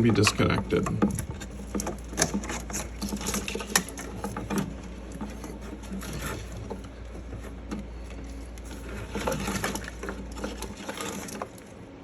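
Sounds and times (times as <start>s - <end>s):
hands rustling wiring: 0.0s - 12.0s
low hum: 0.0s - 12.0s.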